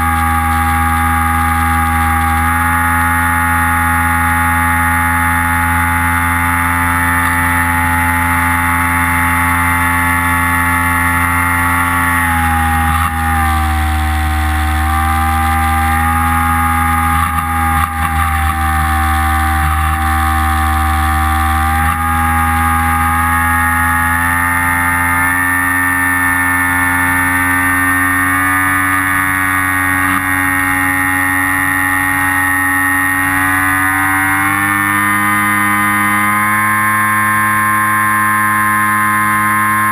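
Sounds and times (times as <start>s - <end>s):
model aircraft motor whining: 0.0s - 39.9s.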